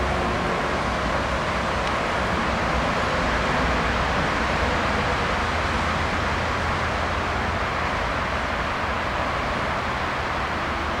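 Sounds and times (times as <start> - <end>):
diesel locomotive rumbling: 0.0 - 11.0.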